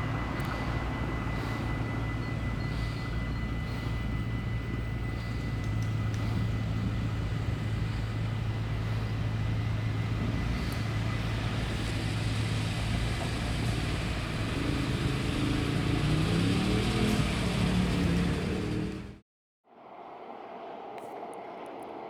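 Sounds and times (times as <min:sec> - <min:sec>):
tram running hum and rumble: 0:00.0 - 0:19.2.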